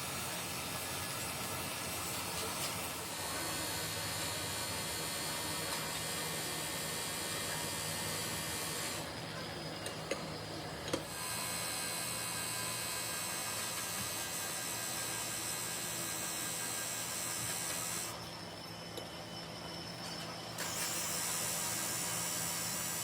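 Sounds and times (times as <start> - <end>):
machinery hiss and hum: 0.0 - 23.0.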